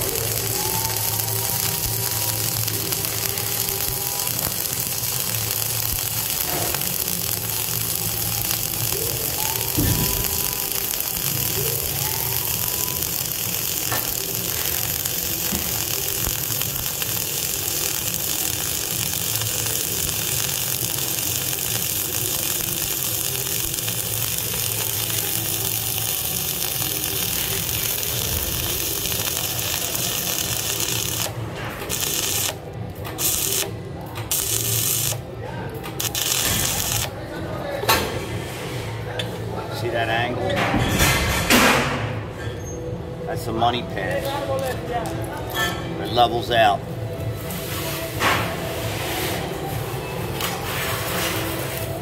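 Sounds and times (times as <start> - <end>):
welding arc crackling and hissing: 0.0 - 35.3, 35.9 - 37.3, 46.0 - 52.0.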